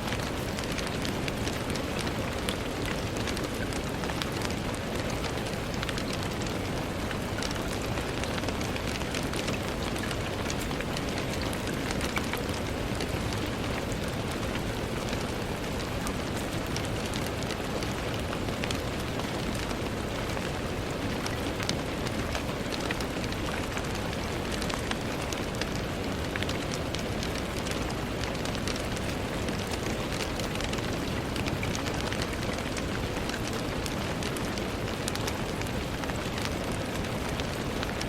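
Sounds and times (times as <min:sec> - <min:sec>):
rain on a window: 0:00.0 - 0:38.0.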